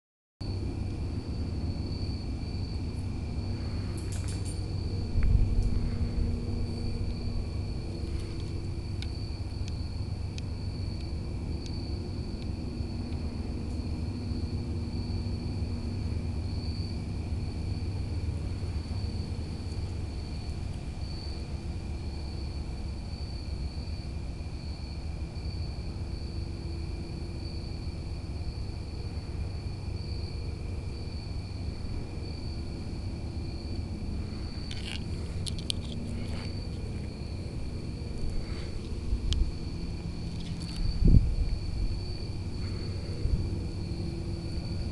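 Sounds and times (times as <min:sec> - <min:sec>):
high whine: 0:00.4 - 0:23.7, 0:25.9 - 0:44.9
turbine-like drone: 0:00.4 - 0:44.9.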